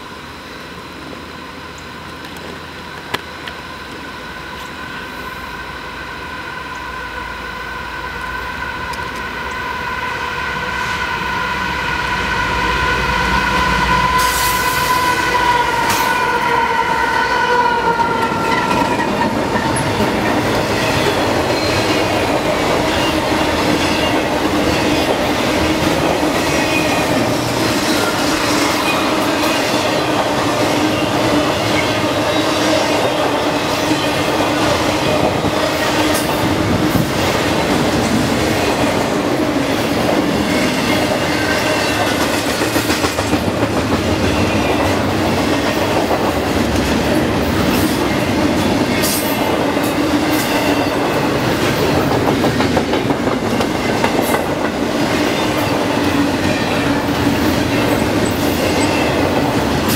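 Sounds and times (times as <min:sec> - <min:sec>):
train rumbling and clattering: 0:00.0 - 0:59.9.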